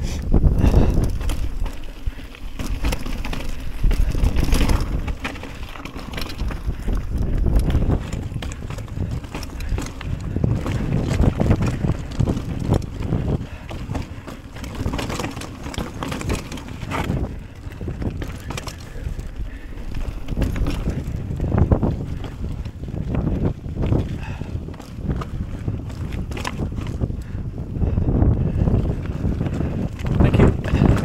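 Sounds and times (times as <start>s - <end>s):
mountain bike rattling on trail: 0.0s - 31.0s
wind buffeting microphone: 0.0s - 31.0s.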